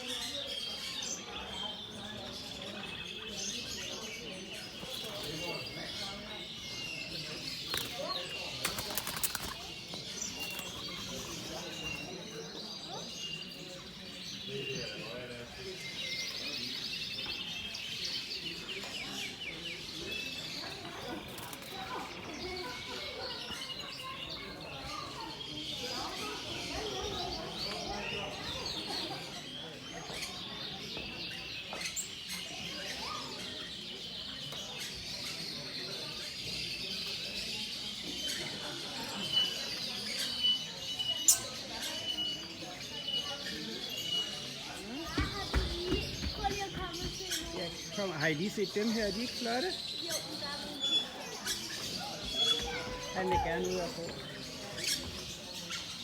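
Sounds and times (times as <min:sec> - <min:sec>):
caged birds chirping: 0:00.0 - 0:56.0
murmur of people talking: 0:00.0 - 0:56.0.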